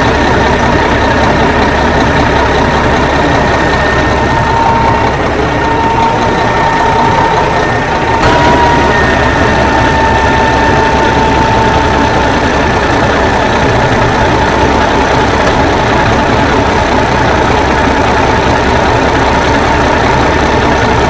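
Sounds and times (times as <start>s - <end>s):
thin steady whine: 0.0s - 21.0s
truck engine running: 0.0s - 21.0s.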